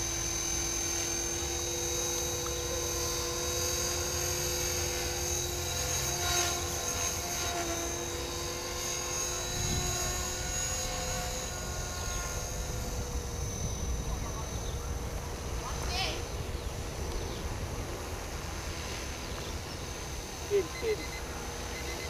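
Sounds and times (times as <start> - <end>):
motor and gear whine: 0.0 - 22.0
rotor blade noise: 0.0 - 22.0.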